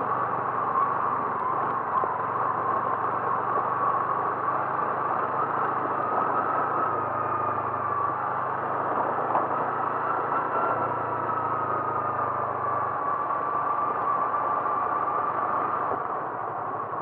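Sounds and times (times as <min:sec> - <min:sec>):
engine hum: 0:00.0 - 0:17.0
road noise: 0:00.0 - 0:17.0.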